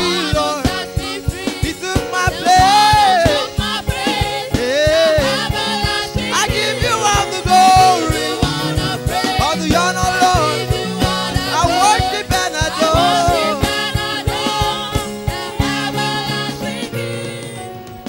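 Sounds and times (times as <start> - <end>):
steady drum beat: 0.0 - 17.7
voices singing gospel: 0.0 - 17.8
worship band playing: 0.0 - 18.0.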